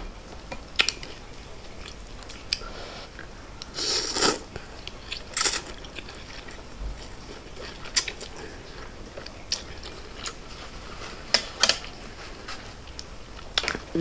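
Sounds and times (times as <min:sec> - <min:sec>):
person chewing noodles: 0:00.5 - 0:12.0.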